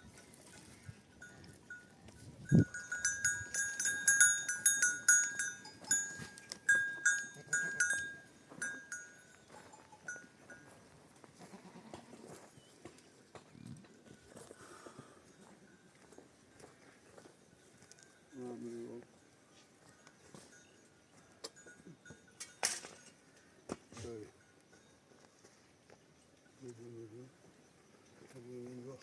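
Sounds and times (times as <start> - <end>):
animal bells clinking: 0.0 - 11.3, 13.9 - 29.0.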